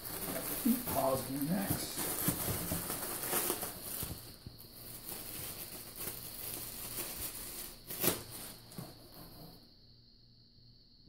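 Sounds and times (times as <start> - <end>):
packaging rustling: 0.0 - 9.4.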